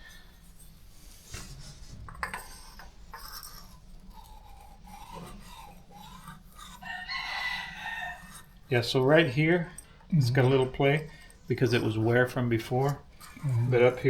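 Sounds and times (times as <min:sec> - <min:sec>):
metal-on-metal scraping: 0:00.0 - 0:14.0.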